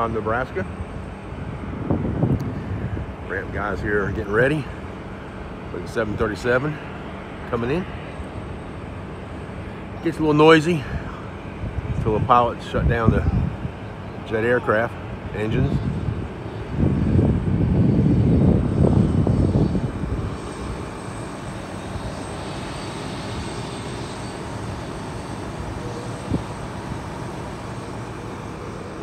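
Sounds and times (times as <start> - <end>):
faint high whine: 0.0 - 29.0
jet engines rumbling: 0.0 - 29.0.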